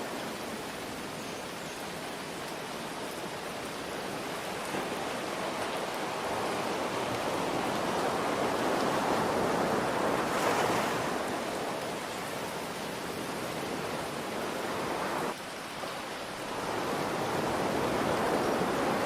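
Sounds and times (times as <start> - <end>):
rain hiss: 0.0 - 19.0
ocean waves breaking: 3.2 - 19.0.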